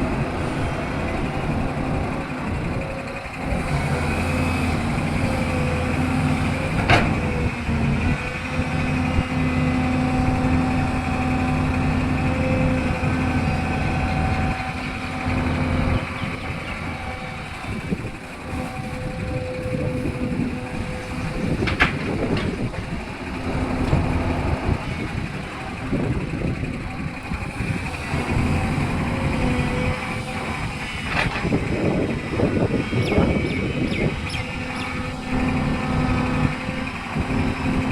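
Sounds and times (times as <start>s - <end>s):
excavator diesel engine working: 0.0s - 37.9s.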